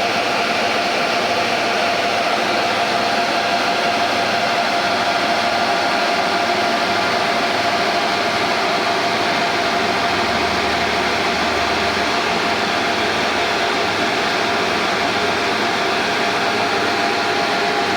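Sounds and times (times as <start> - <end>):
motor-driven blower whining: 1.0 - 17.9.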